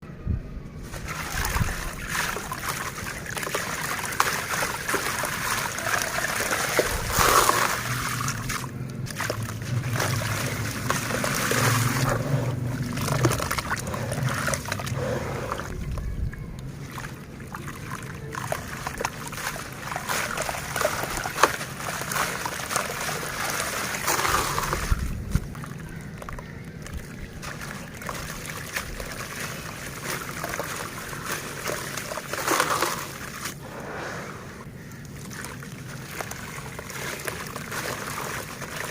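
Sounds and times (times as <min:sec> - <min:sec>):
water splashing and sloshing: 0:00.8 - 0:38.9
dirt crumbling in water: 0:00.9 - 0:16.0, 0:16.7 - 0:33.6, 0:34.5 - 0:38.9.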